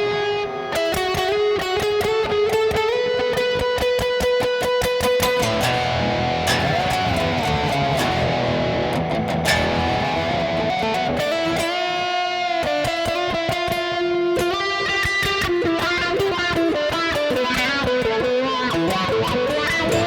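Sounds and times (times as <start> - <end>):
electric guitar with effects: 0.0 - 20.0.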